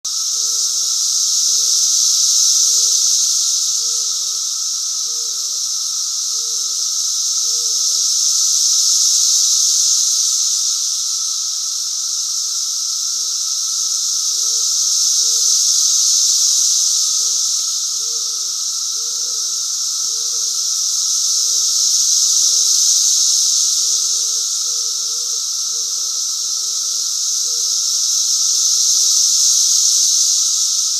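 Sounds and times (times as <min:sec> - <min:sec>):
cicadas buzzing: 0:00.0 - 0:30.9.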